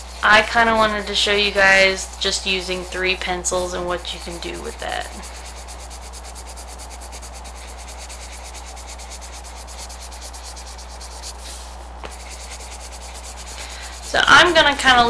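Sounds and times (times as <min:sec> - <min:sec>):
pencil scratching on paper: 0:00.0 - 0:14.8.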